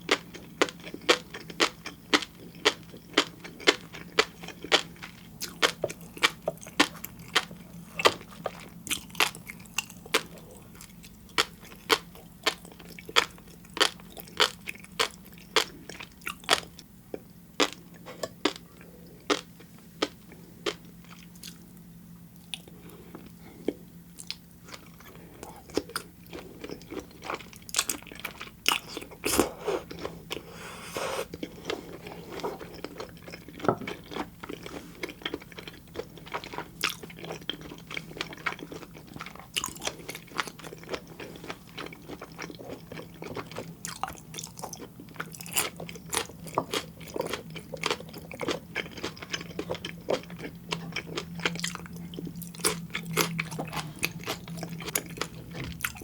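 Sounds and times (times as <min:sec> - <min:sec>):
chewing crackles and crunches: 0:00.0 - 0:56.0.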